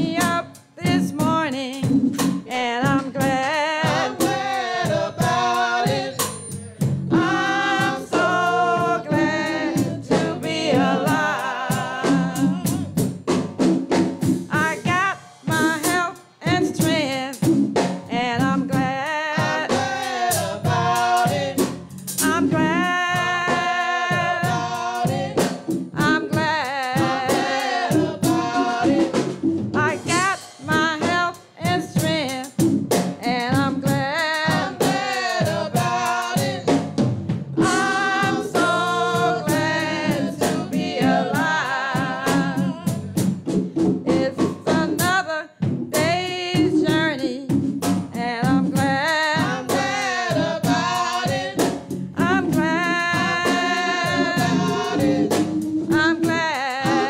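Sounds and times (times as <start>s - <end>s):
gospel singing: 0.0s - 13.2s, 18.1s - 32.1s, 33.2s - 43.4s, 44.0s - 47.4s, 48.1s - 57.0s
drum kit: 0.0s - 57.0s.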